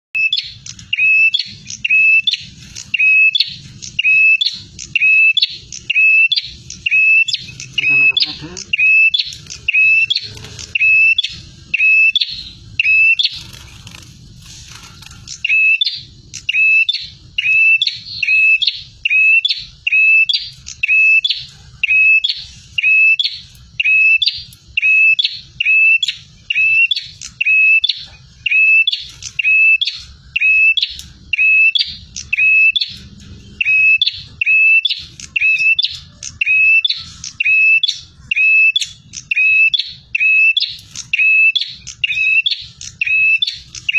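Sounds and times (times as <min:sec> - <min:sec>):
bird chirping repeatedly: 0:00.1 - 0:43.9.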